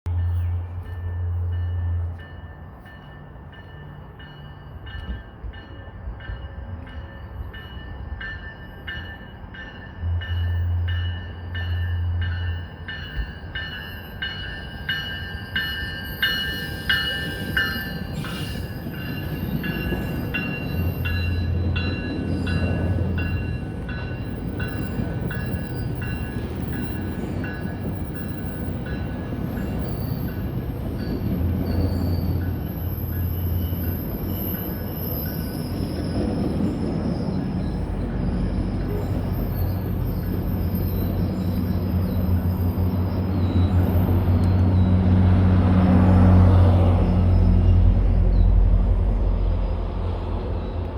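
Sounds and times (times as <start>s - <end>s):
train bell ringing: 0.1s - 45.2s.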